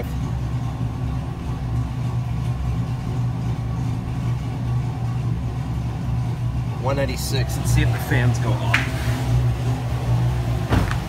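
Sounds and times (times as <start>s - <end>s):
car engine idling: 0.0s - 11.0s
radiator cooling fans running: 0.0s - 11.0s.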